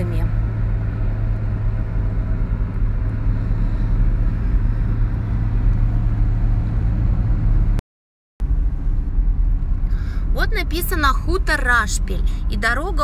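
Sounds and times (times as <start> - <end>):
car engine and road noise: 0.0 - 7.8, 8.4 - 13.0.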